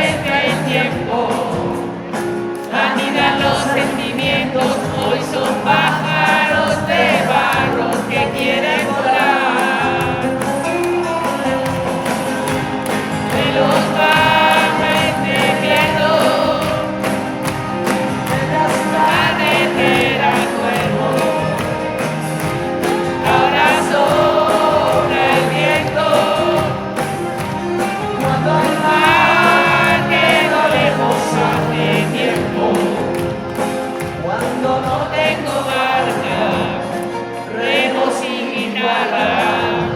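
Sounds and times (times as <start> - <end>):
live pop-rock band: 0.0 - 39.9
voices singing: 0.0 - 39.9.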